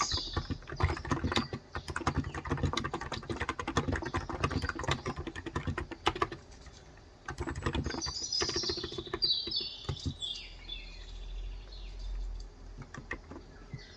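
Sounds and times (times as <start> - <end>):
keyboard typing: 0.0 - 10.3, 12.7 - 13.9
bird chirping: 0.0 - 13.9.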